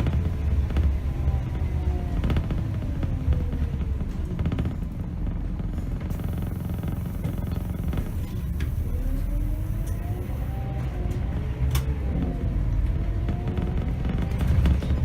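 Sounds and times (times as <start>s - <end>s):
bus diesel engine rumbling: 0.0s - 15.0s
faint engine whine: 0.0s - 15.0s.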